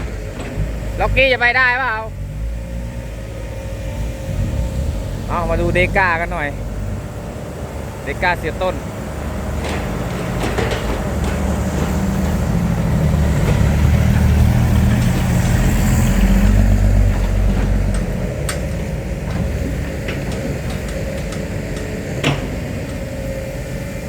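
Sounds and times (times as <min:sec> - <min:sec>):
dump truck diesel engine pulling: 0:00.0 - 0:24.0.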